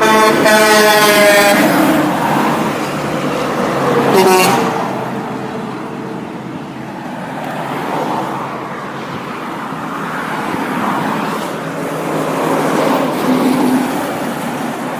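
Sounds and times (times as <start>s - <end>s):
vehicles driving past: 0.0s - 14.9s.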